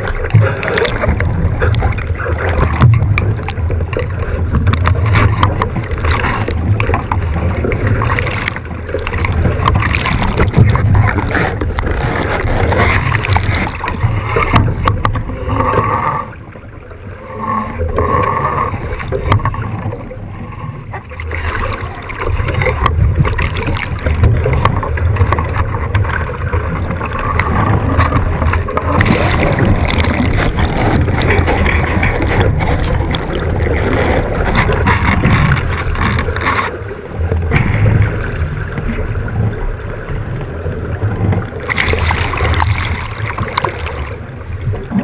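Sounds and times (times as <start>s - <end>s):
water rushing along hull: 0.0s - 45.0s.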